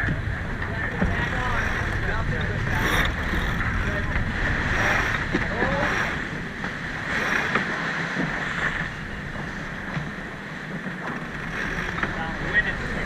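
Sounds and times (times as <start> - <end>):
rushing wind and water: 0.0 - 13.0
wind buffeting microphone: 0.0 - 13.0.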